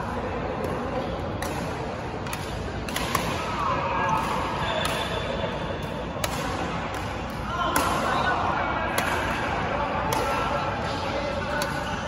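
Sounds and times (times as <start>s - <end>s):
sports hall noise: 0.0s - 12.0s
rackets striking shuttlecock: 0.5s - 8.2s, 8.9s - 12.0s.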